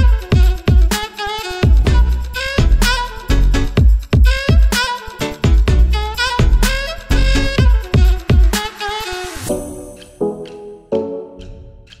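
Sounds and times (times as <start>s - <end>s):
electronic music with bass drum: 0.0s - 12.0s.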